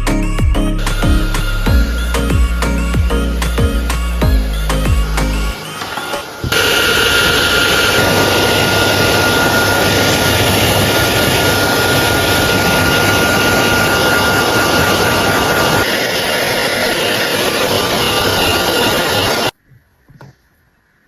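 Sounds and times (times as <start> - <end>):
hair dryer blowing: 0.8 - 19.5.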